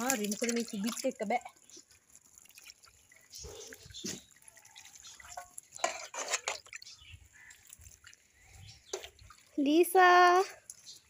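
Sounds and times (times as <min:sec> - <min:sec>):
water dripping: 0:00.0 - 0:11.0
water pouring over a dog: 0:00.0 - 0:11.0.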